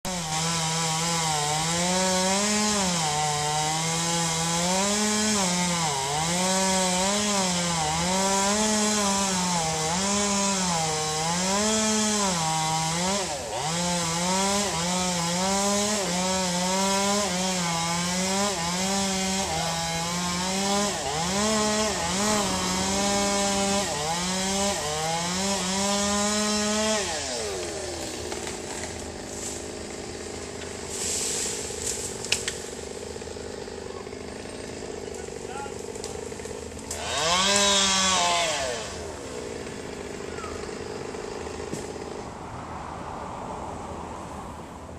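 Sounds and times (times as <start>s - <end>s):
chainsaw cutting stump: 0.1s - 42.5s.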